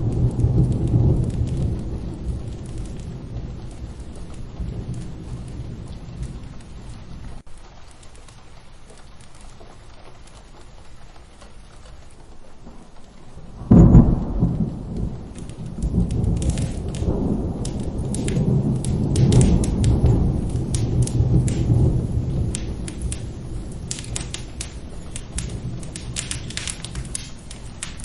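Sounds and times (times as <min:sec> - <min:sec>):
sharp crackles: 0:00.0 - 0:28.0
steady rain: 0:00.0 - 0:28.0
thunder rumbling: 0:00.0 - 0:28.0.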